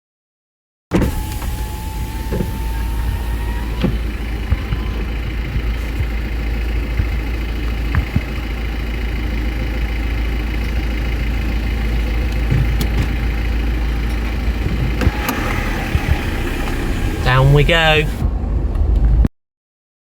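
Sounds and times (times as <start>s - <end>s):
car engine rumbling: 0.9s - 19.3s.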